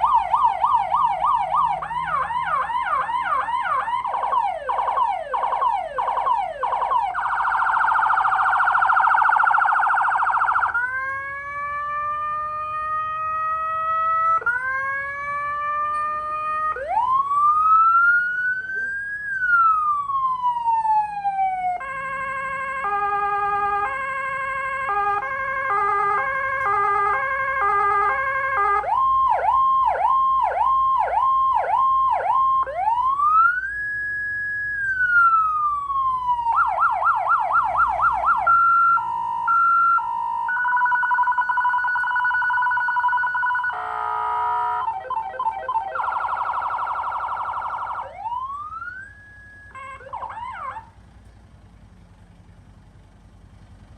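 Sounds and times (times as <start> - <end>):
electronic emergency siren: 0.0 - 51.0.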